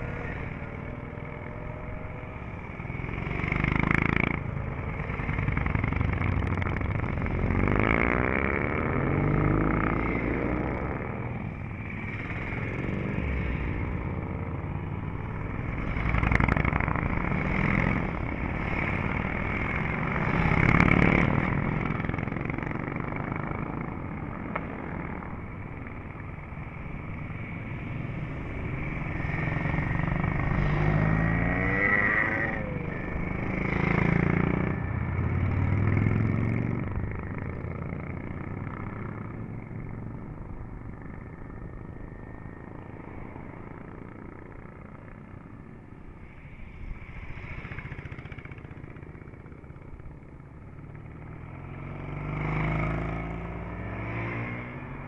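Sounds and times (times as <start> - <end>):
motorcycles revving past: 0.0 - 55.0.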